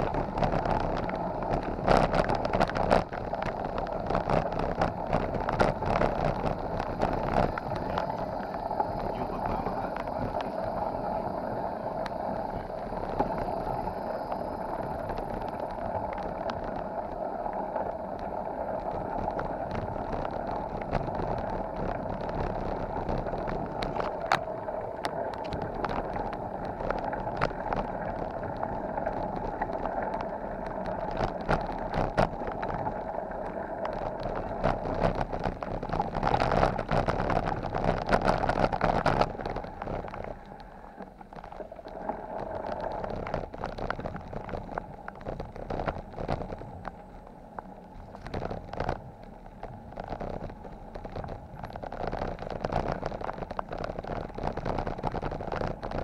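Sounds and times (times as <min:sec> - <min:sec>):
bicycle tyres rolling on gravel: 0:00.0 - 0:56.0.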